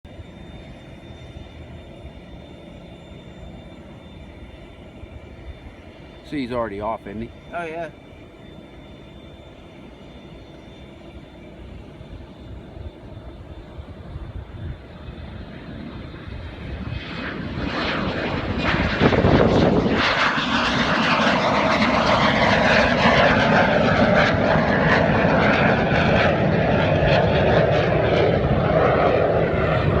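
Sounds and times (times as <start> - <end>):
jet aircraft taking off: 0.1 - 30.0.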